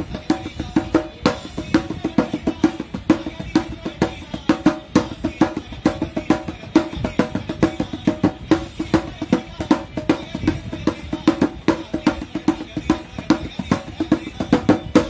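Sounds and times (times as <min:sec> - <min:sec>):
fast steady drumming: 0:00.0 - 0:15.0.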